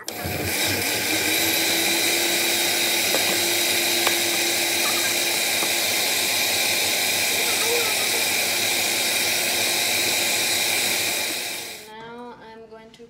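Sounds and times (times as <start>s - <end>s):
blender running: 0.0s - 11.9s.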